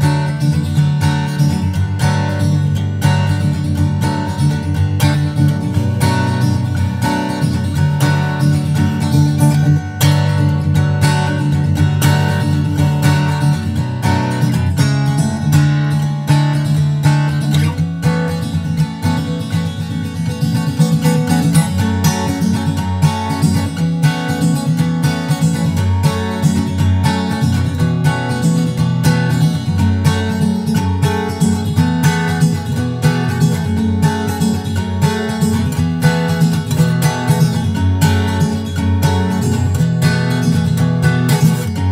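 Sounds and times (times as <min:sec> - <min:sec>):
acoustic guitar picked and strummed: 0:00.0 - 0:41.9.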